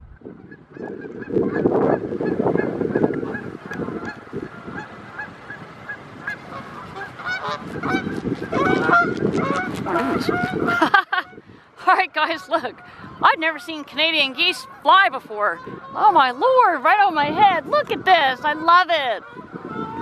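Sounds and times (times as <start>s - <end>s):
geese honking in flight: 0.2s - 20.0s.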